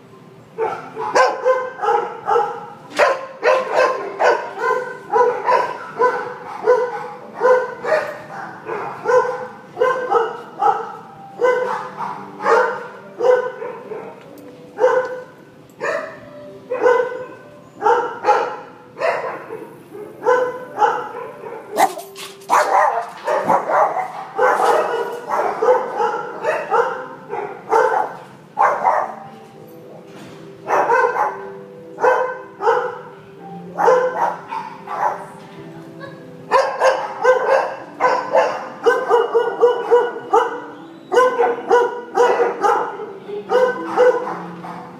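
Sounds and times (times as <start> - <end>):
dogs barking: 0.5 - 29.4, 30.6 - 35.4, 36.0 - 44.9.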